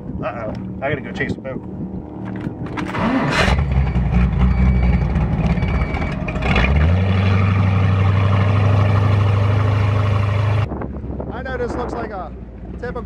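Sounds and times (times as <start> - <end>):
powerboat engine drone: 0.0 - 11.2.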